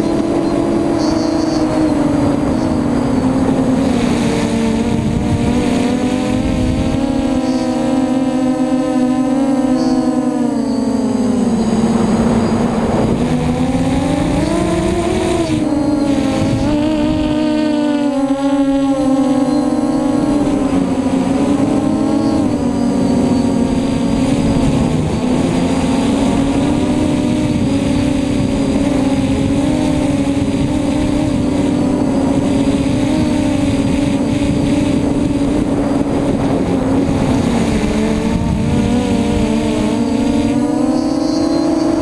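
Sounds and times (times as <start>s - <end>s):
drone motors buzzing: 0.0s - 42.0s
wind noise: 0.0s - 42.0s.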